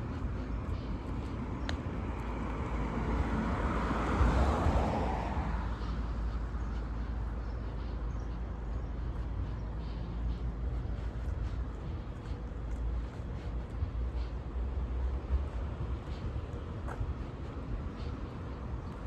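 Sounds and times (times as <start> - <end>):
road traffic rumble: 0.0 - 19.0
vehicle passing: 0.0 - 19.0.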